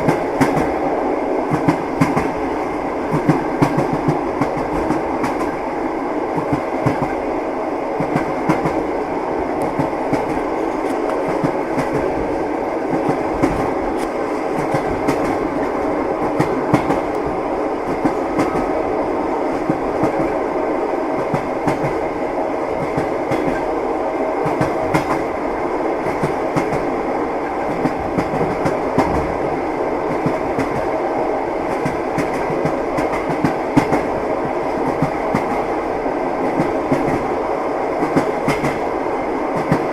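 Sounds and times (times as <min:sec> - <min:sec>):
train carriage rumbling: 0:00.0 - 0:39.9.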